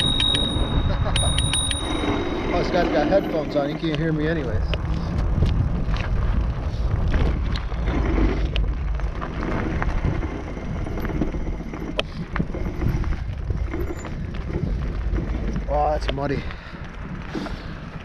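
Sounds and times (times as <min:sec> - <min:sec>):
bike clicks and rattles: 0:00.0 - 0:18.0
bike tyre rumble on dirt: 0:00.0 - 0:18.0
wind buffeting microphone: 0:00.0 - 0:18.0.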